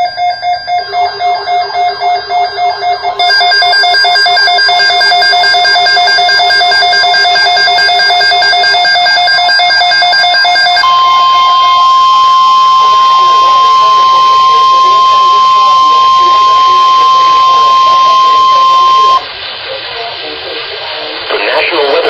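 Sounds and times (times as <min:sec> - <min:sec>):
pulsing electronic alarm tone: 0:00.0 - 0:19.2
steady tone: 0:00.0 - 0:19.3.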